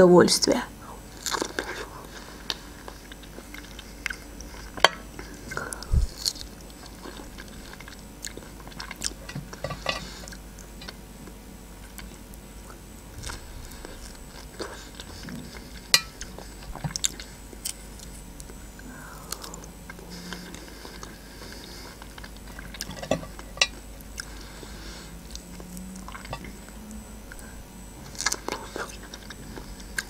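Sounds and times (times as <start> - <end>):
chewing with wet mouth sounds: 1.2 - 30.0.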